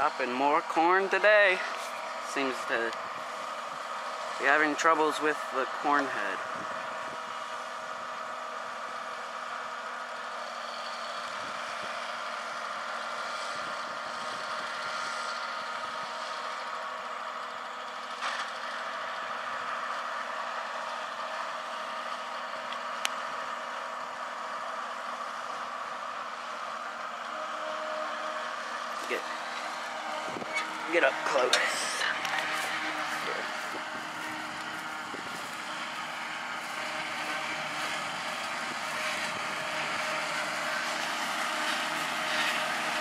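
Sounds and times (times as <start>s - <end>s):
tractor and forage harvester drone: 0.0s - 43.0s.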